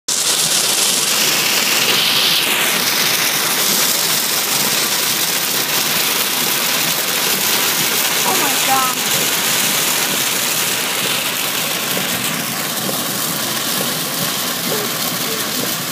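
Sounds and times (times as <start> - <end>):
heavy rain on car roof: 0.1 - 15.9
road noise: 0.1 - 15.9.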